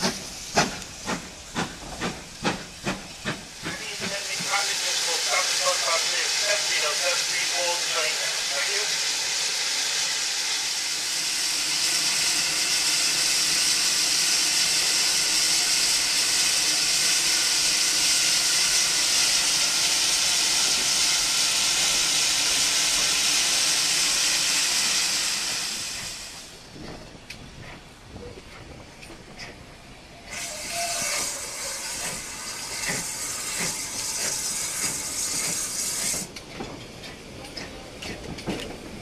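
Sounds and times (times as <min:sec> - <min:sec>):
locomotive blowing off steam: 0:00.0 - 0:26.7, 0:30.2 - 0:36.3.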